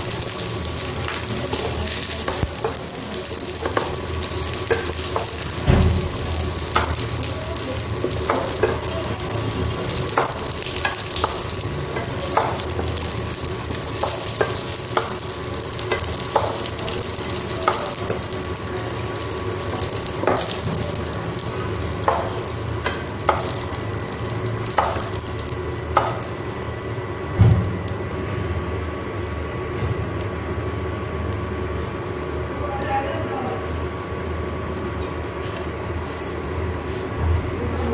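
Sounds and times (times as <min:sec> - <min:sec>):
oil sizzling in a wok: 0:00.0 - 0:33.0.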